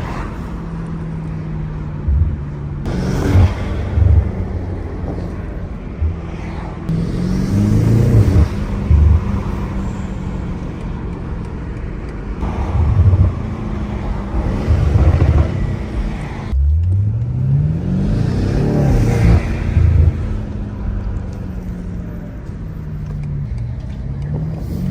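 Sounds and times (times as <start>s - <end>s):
car engine accelerating: 0.0s - 24.9s.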